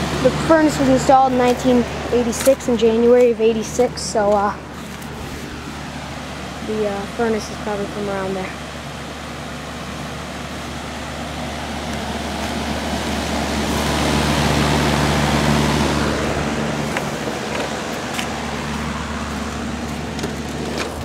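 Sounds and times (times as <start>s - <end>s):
air conditioner low hum: 0.0s - 21.0s
outdoor fan rushing: 0.0s - 21.0s.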